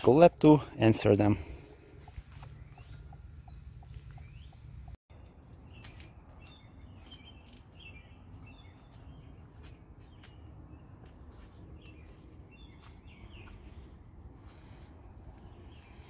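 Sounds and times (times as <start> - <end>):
small birds chirping: 0.1 - 16.0.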